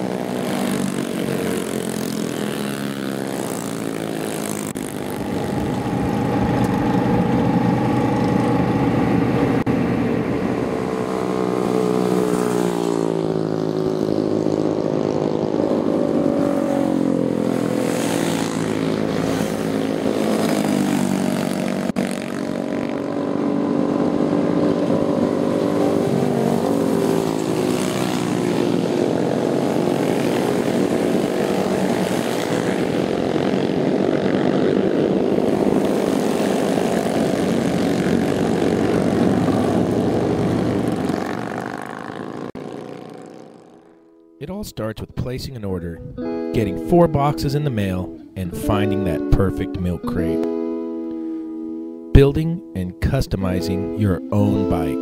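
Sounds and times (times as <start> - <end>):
motorcycles riding past: 0.0 - 44.2.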